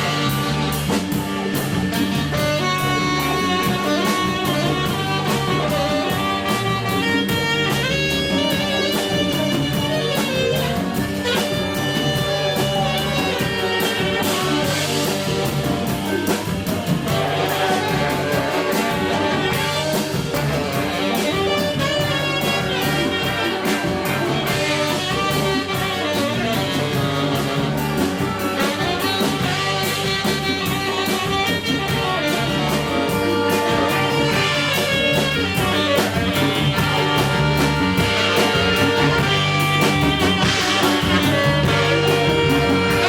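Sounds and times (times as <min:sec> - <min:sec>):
live jazz band playing: 0:00.0 - 0:43.0.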